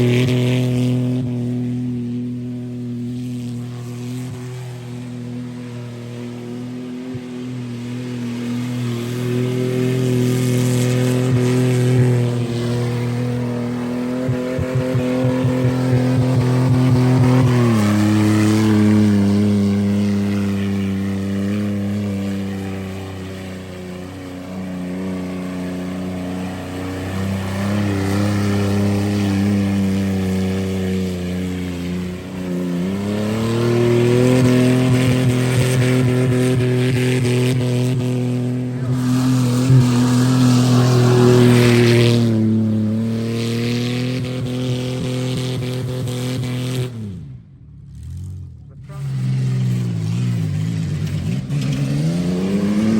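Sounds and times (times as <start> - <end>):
car engine revving high: 0.0 - 52.9.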